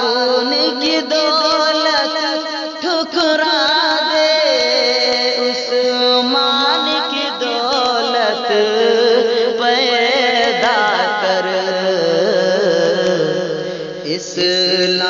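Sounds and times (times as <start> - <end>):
man singing wavering melody: 0.0 - 15.0.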